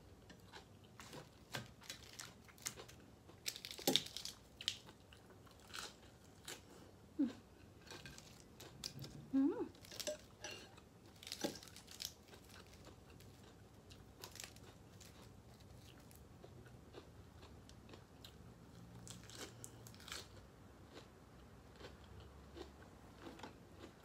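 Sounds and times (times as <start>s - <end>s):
person chewing and biting food: 0.2s - 9.2s, 9.8s - 24.0s.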